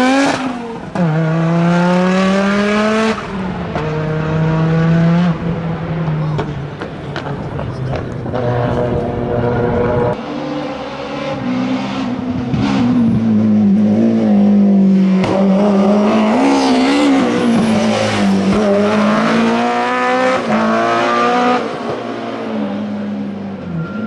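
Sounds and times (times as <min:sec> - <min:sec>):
rally car engine at high revs: 0:00.0 - 0:24.0.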